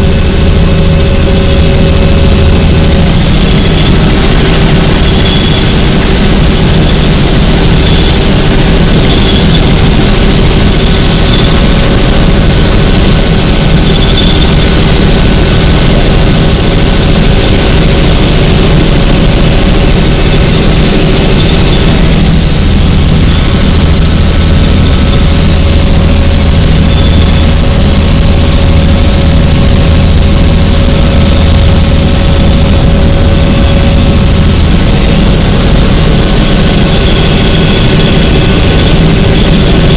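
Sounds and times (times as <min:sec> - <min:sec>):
helicopter engine and rotor drone: 0:00.0 - 0:39.9
high-pitched whine: 0:00.0 - 0:39.9.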